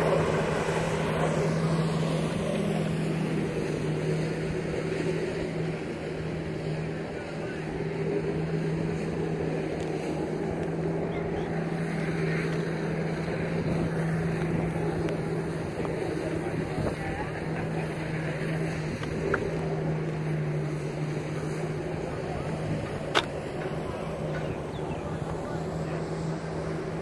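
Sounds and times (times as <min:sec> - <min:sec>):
jet ski engine droning: 0:00.0 - 0:27.0.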